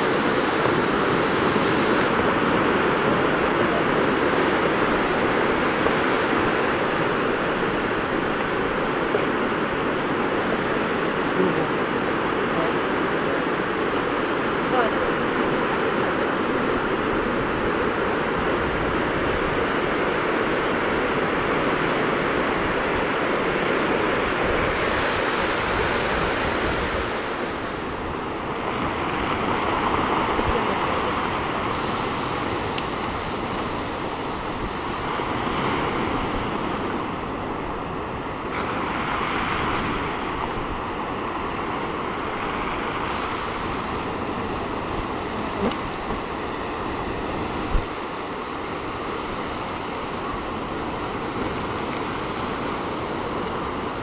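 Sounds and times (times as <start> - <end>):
surf breaking on rocky shore: 0.0 - 54.0
wind on microphone: 0.0 - 54.0.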